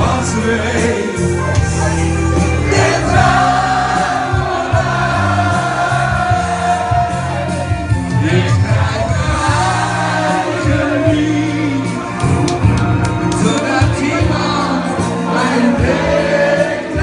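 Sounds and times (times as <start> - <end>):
sentimental pop music with singing: 0.0 - 17.0
steady bass line: 0.0 - 17.0.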